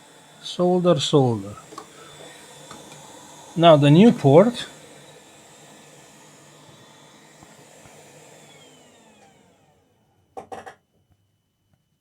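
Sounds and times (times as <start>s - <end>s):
hot air blower hissing: 0.0s - 9.9s.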